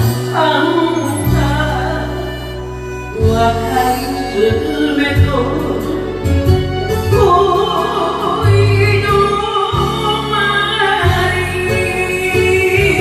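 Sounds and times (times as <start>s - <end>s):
backing track with bass line: 0.0s - 13.0s
woman singing with vibrato: 0.0s - 13.0s.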